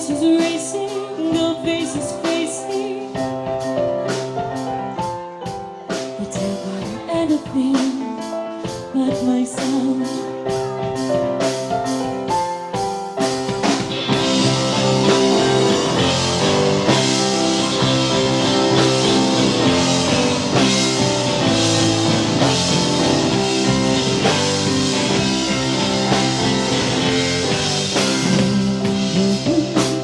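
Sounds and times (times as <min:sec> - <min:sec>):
rock band instrumental: 0:00.0 - 0:30.0.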